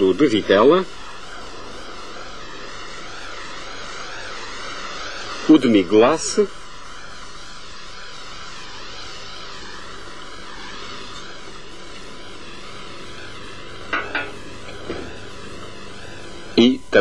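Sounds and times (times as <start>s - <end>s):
stock sizzling in a pot: 0.0s - 17.0s.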